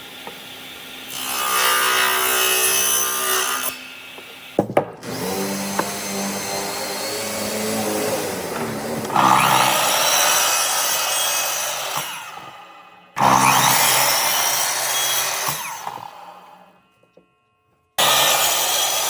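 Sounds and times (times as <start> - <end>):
power tool cutting wood: 1.0 - 4.4, 5.0 - 16.8, 18.0 - 19.0.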